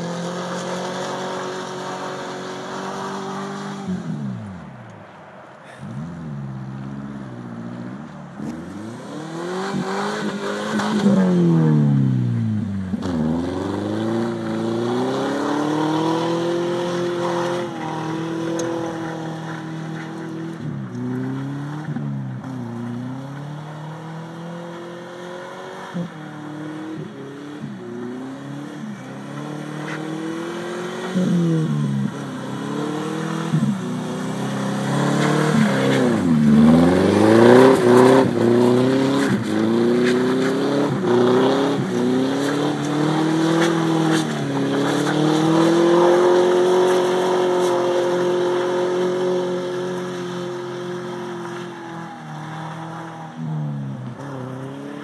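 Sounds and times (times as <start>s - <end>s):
car engine revving: 5.6s - 55.0s.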